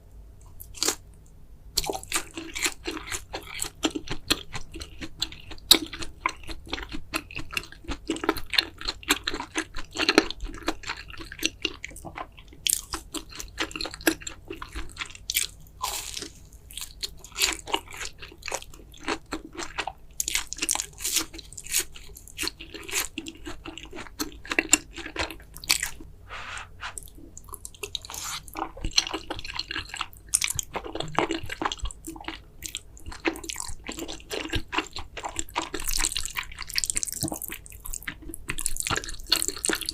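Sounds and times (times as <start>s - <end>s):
person chewing noodles: 0.6s - 1.0s, 1.8s - 39.9s.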